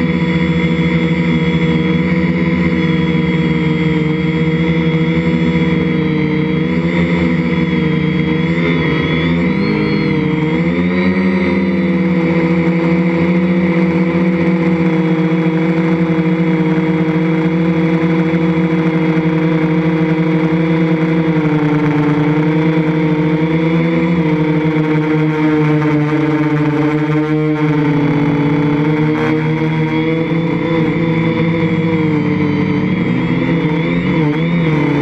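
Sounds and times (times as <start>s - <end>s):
drone propellers humming: 0.0s - 35.0s.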